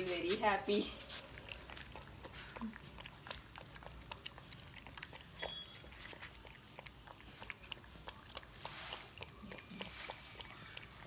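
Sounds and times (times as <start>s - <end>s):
puppy chewing food: 0.0s - 11.0s.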